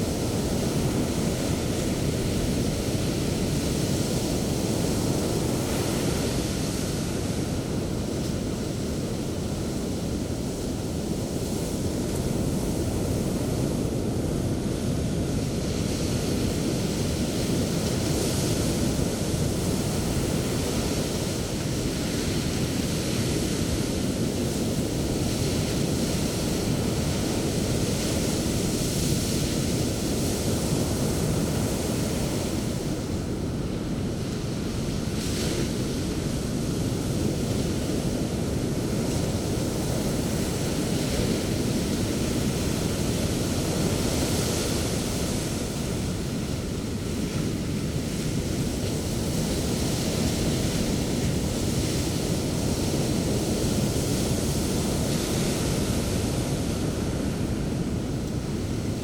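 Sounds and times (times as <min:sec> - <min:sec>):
sea surf on a beach: 0:00.0 - 0:59.0.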